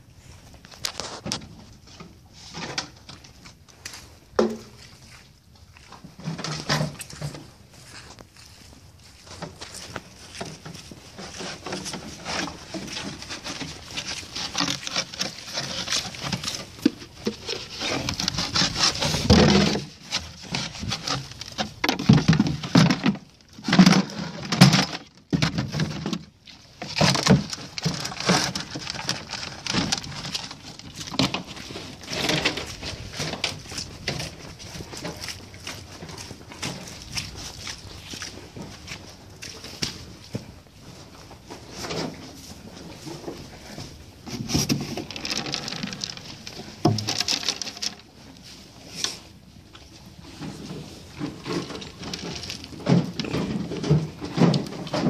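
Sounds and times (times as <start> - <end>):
horses chewing hay: 0.0 - 55.0.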